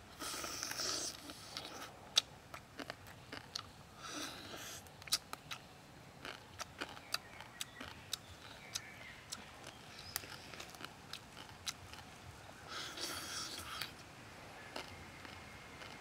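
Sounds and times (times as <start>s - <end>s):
person chewing and crunching: 0.2s - 12.2s, 14.7s - 16.0s.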